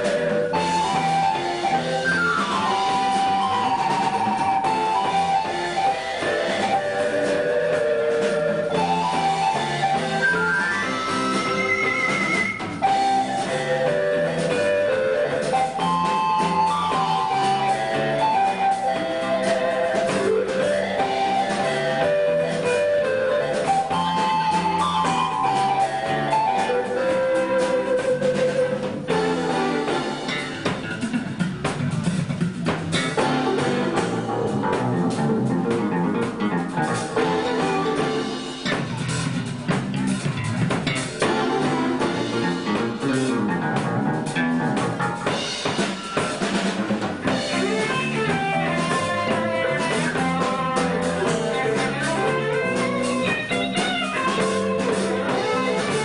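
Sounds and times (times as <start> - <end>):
drum kit rimshots: 0.0 - 56.0
electric guitar: 0.0 - 56.0
live band playing: 0.0 - 56.0.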